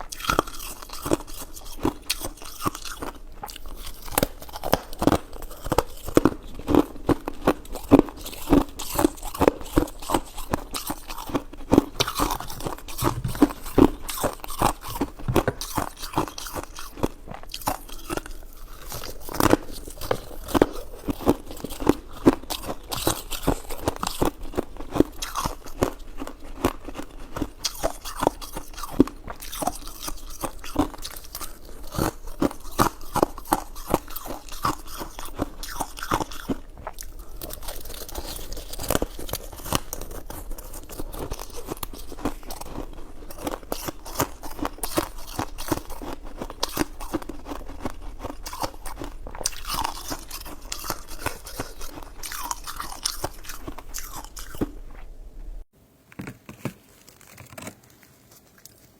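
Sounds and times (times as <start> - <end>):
person chewing: 0.0 - 55.7, 57.2 - 58.9.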